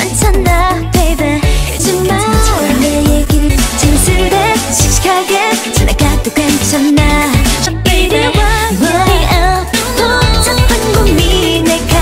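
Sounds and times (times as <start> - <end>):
pulsing bass and synth beat: 0.0 - 12.0
woman singing: 0.0 - 12.0.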